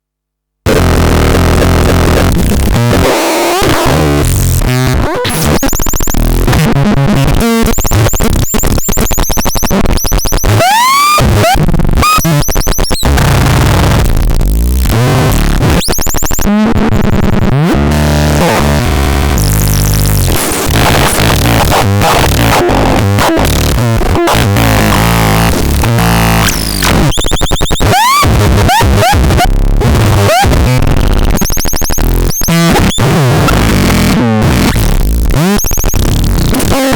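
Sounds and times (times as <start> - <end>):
harsh electronic noise: 0.7 - 36.9.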